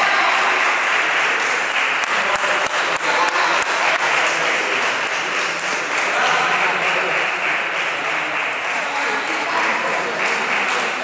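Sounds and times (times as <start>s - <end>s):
background hall din: 0.0s - 11.0s.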